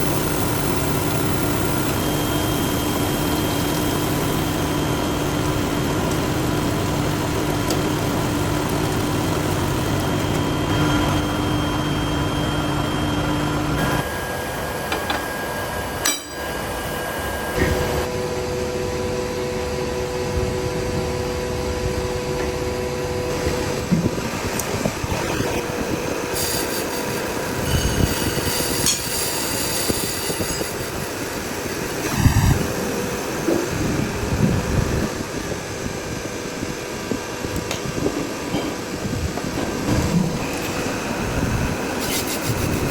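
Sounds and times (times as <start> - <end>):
metalworking machinery humming: 0.0 - 42.9.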